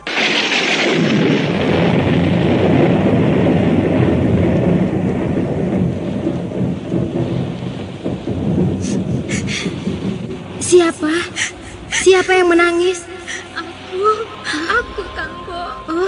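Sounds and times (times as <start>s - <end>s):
rolling thunder: 0.0s - 16.0s
steady rain: 0.0s - 16.0s.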